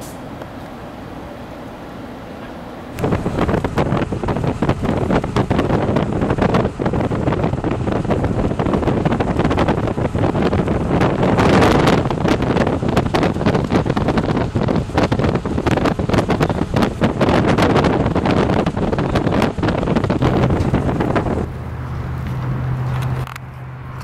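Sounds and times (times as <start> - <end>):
wind buffeting microphone: 2.9 - 24.0.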